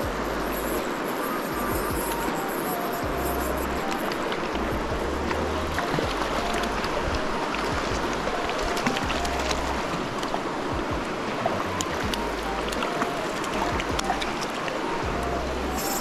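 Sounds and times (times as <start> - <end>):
background music with bass: 0.0 - 10.1, 10.7 - 14.4, 15.0 - 16.0
river running over stones: 0.0 - 16.0.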